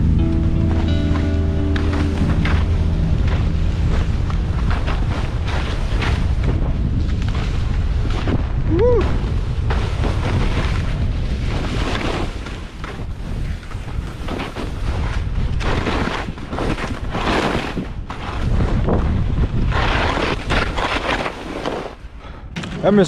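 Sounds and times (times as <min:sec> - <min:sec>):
skis scraping over snow: 0:00.9 - 0:22.0
wind buffeting microphone: 0:01.7 - 0:20.8.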